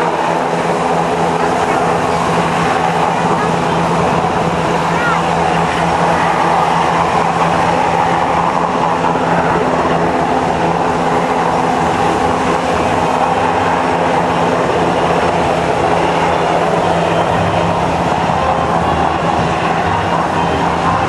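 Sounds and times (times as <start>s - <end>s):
helicopter rotor and turbine noise: 0.0s - 21.0s.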